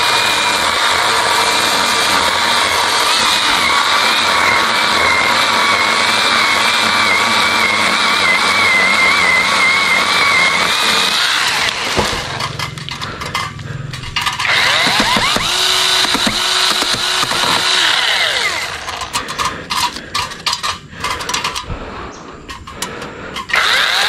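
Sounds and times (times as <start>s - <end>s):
electric chainsaw motor whine: 0.0s - 19.2s, 22.7s - 24.0s.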